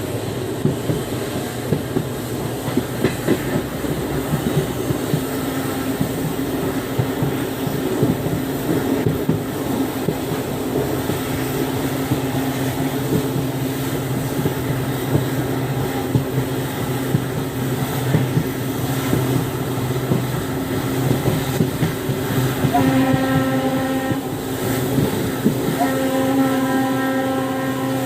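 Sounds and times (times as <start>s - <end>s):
diesel locomotive engine running: 0.0s - 28.0s.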